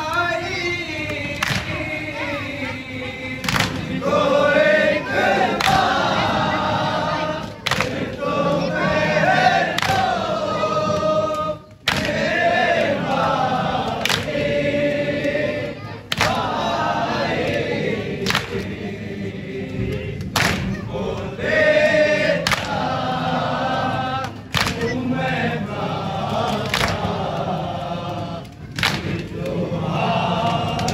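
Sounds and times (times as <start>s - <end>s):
men chanting in unison: 0.0s - 30.9s.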